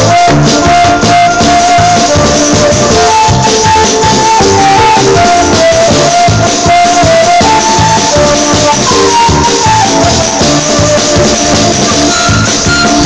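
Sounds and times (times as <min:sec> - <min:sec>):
lively music with steady beat: 0:00.0 - 0:13.0.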